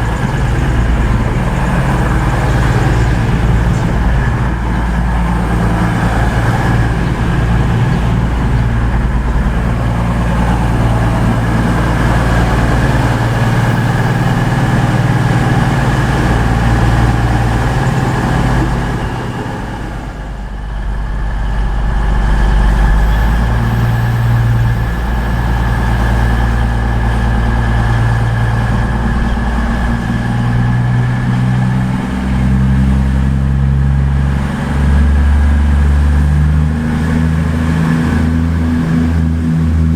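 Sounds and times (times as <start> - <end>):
diesel train engine running: 0.0 - 39.9.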